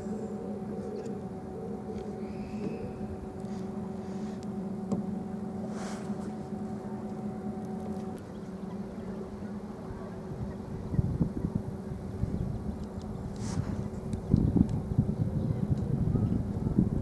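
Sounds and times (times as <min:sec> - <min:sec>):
electric boat motor humming: 0:00.0 - 0:17.0
water and air noise: 0:00.0 - 0:17.0.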